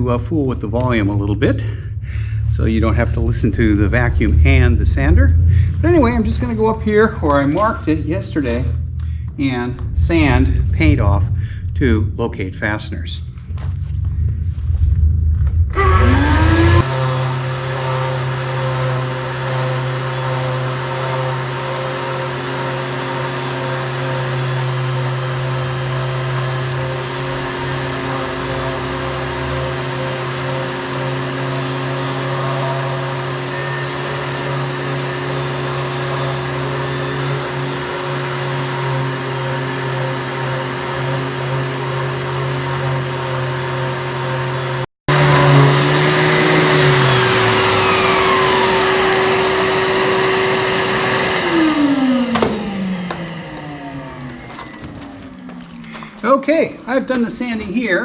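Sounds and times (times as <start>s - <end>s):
power sander sanding wood: 0.0s - 12.2s, 13.2s - 58.0s.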